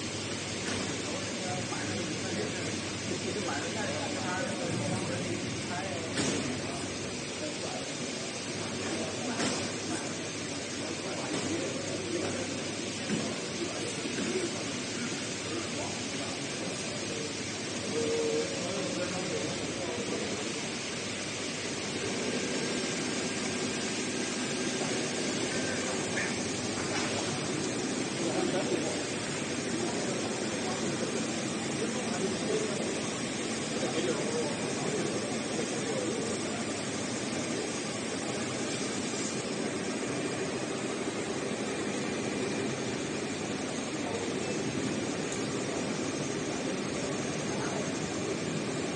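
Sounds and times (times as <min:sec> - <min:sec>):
factory hall hum: 0:00.0 - 0:48.9.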